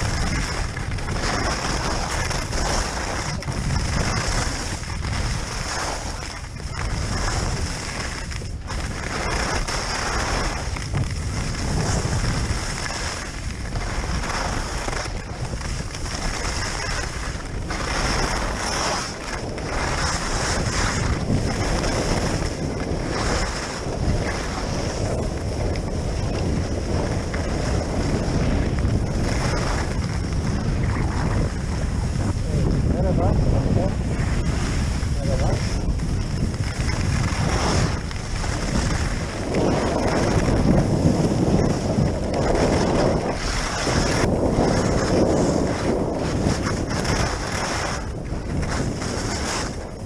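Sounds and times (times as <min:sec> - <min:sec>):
skis scraping on snow: 0:00.0 - 0:50.0
wind buffeting microphone: 0:00.0 - 0:50.0.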